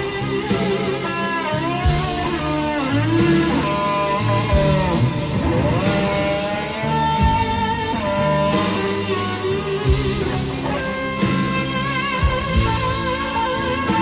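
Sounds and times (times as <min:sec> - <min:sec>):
gliding lead guitar melody: 0:00.0 - 0:14.0
rock instrumental music: 0:00.0 - 0:14.0.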